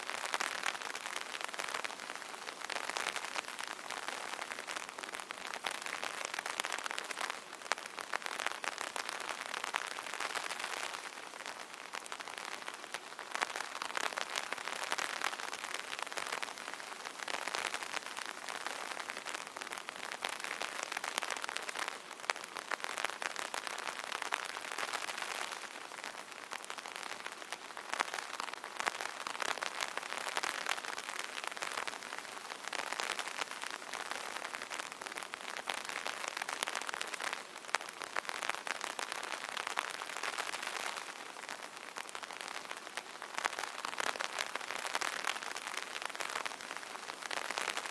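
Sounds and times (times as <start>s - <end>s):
rain pattering on an umbrella: 0.0s - 47.9s.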